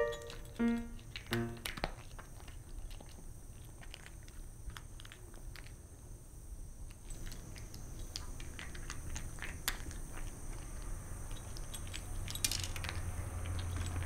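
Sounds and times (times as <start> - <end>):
cat crunching dry kibble: 0.3 - 5.9, 6.9 - 14.0.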